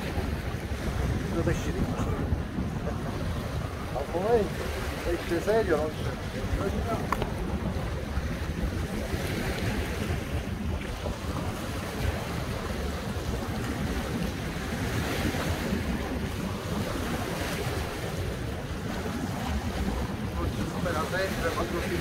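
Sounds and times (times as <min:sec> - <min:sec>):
surf washing against rocky shore: 0:00.0 - 0:22.0
wind rumbling on microphone: 0:00.0 - 0:22.0.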